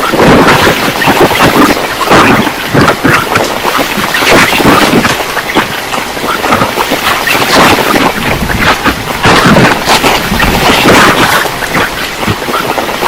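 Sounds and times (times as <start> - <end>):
gusting wind: 0.0 - 13.0
torrential rain: 0.0 - 13.0.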